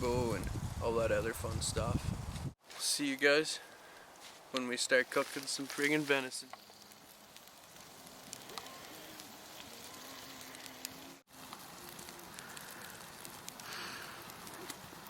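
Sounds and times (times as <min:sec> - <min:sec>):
campfire crackling and popping: 0:02.3 - 0:15.0.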